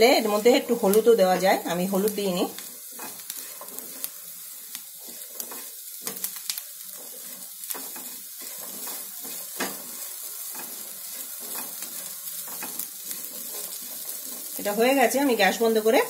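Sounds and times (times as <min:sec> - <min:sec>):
light sizzle: 0:00.0 - 0:16.0
spatula scraping frying pan: 0:01.9 - 0:15.8.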